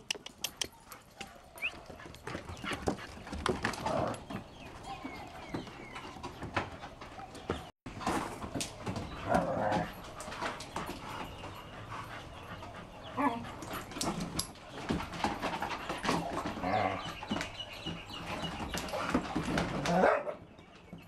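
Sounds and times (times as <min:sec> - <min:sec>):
dogs yipping and whining: 0:00.3 - 0:07.7, 0:08.8 - 0:21.0
paws scuffling on wooden decking: 0:00.8 - 0:21.0.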